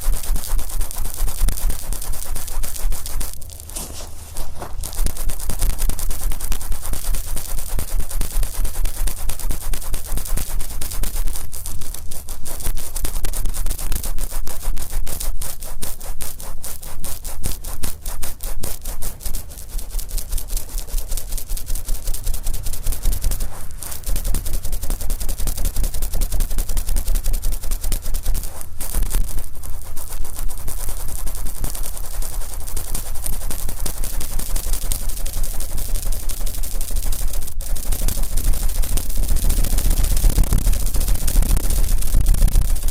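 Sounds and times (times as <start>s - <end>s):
cotton swab rubbing microphone: 0.0s - 42.9s.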